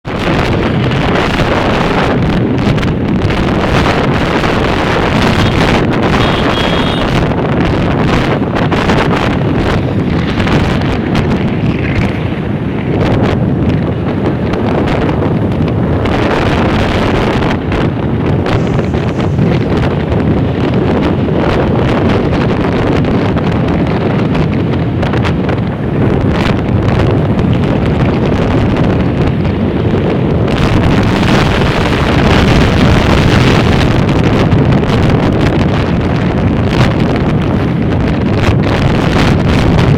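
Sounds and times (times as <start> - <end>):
wind buffeting the microphone: 0.0 - 39.9.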